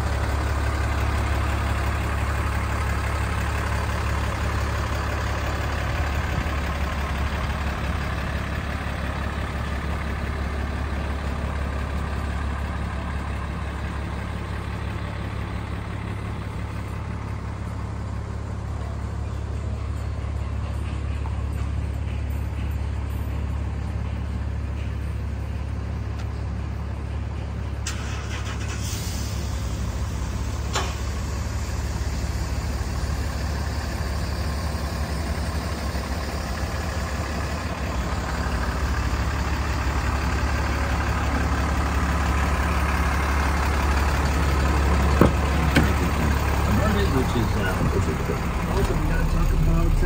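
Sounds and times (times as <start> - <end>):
diesel truck engine idling: 0.0 - 50.0.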